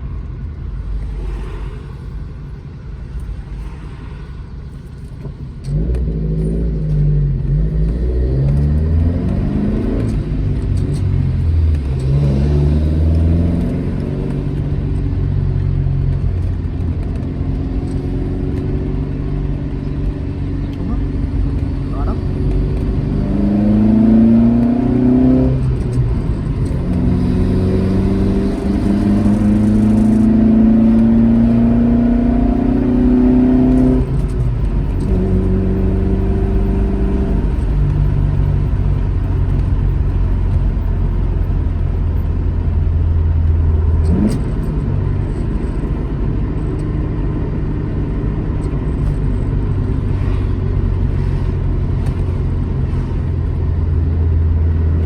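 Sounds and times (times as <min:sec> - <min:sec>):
car engine pulling through gears: 0:00.0 - 0:55.0.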